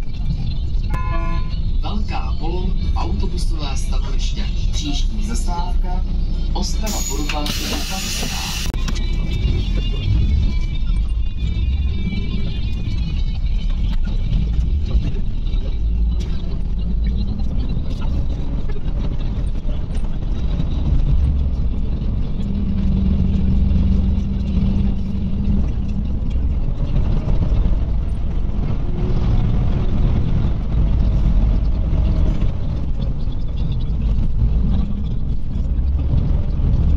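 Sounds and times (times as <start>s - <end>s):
bus engine and road rumble: 0.0s - 36.9s
low hum: 0.0s - 36.9s.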